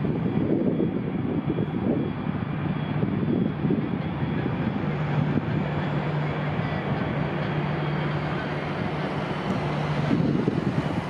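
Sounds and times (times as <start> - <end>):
jet engine rumble: 0.0 - 11.0
wind gusts on microphone: 0.0 - 11.0.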